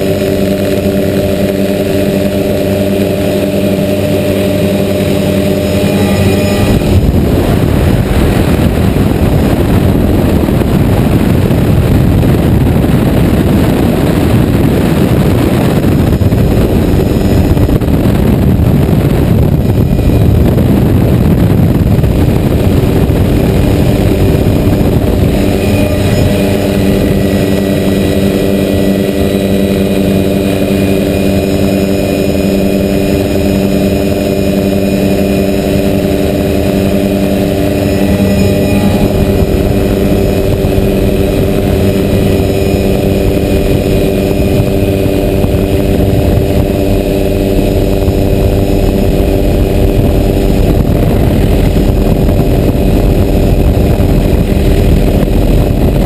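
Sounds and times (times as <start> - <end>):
helicopter rotor and engine: 0.0 - 56.0
steady hum of tones: 0.0 - 56.0
wind rushing over microphone: 0.0 - 56.0.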